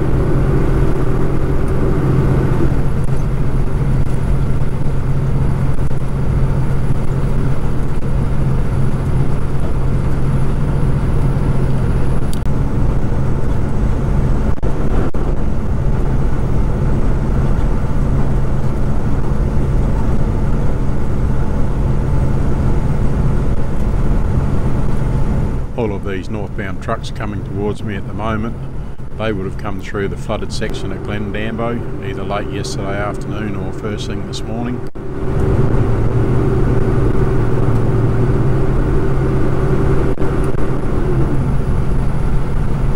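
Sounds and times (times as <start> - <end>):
road noise: 0.0 - 42.9
truck engine drone: 0.0 - 42.9.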